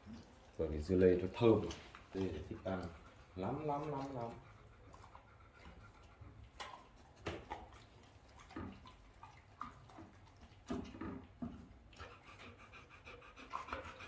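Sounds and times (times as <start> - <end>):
dog chewing wetly: 0.0 - 14.0
dogs panting: 0.0 - 14.0.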